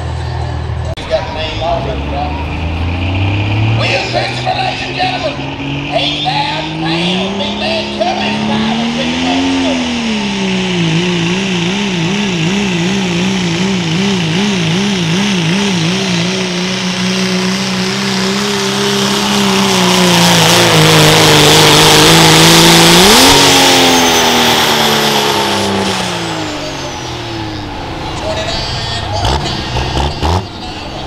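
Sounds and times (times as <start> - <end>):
diesel pickup engine at full throttle: 0.0 - 31.0.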